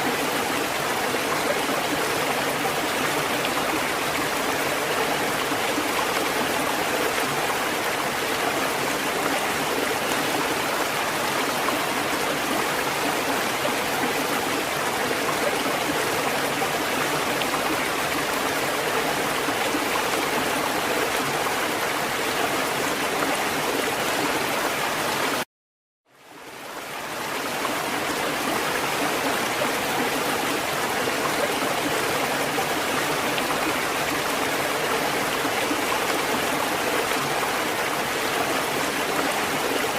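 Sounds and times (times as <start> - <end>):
rushing water: 0.0 - 25.5, 26.1 - 39.9.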